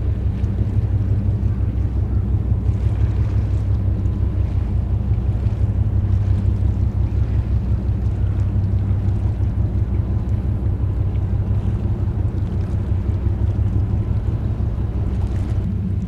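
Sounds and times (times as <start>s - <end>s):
ship diesel engine drone: 0.0s - 16.0s.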